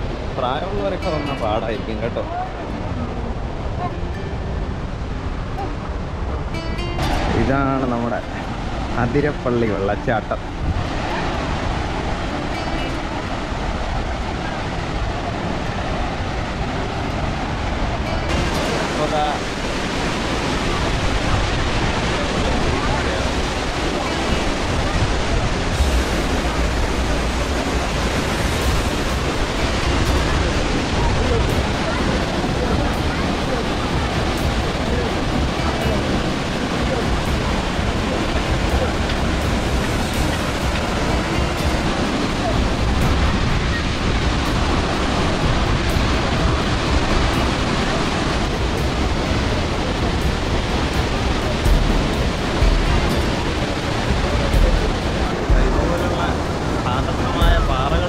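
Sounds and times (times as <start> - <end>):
waterfall rushing: 0.0 - 58.0
low rumbles: 2.0 - 58.0.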